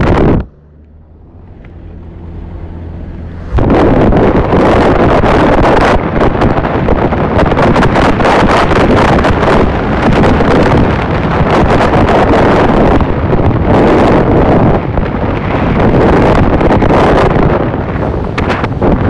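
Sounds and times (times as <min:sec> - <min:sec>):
vehicle and tyre noise: 0:00.0 - 0:19.0
wind buffeting microphone: 0:00.0 - 0:19.0.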